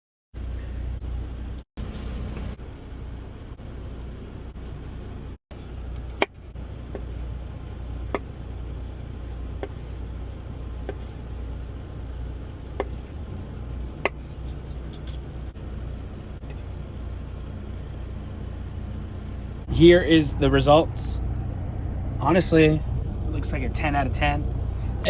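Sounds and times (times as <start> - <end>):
truck engine idling: 0.4 - 25.0.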